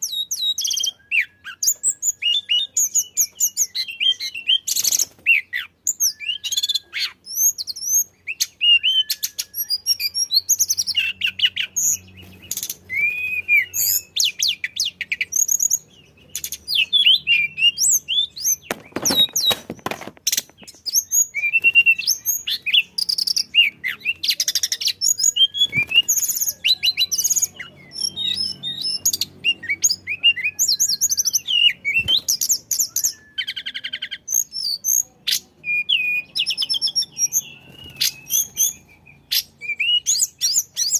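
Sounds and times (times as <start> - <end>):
songbird singing chirps and trills: 0.0 - 40.9.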